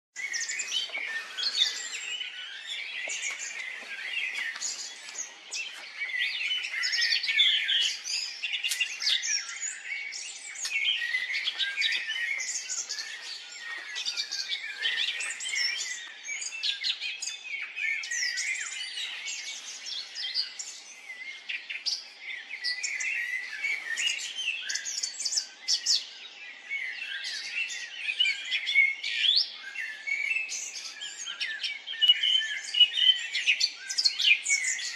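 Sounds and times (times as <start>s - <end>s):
songbirds singing and chirping: 0.1s - 34.9s.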